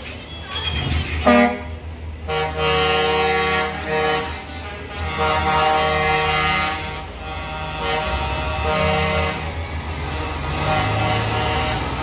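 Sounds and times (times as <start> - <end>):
diesel truck engines running: 0.0 - 12.0
air horn blasts: 1.2 - 12.0.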